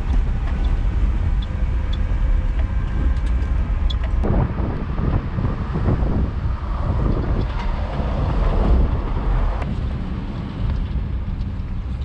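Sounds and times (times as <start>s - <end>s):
pickup engine rumbling: 0.0s - 12.0s
rough rushing noise: 0.0s - 12.0s.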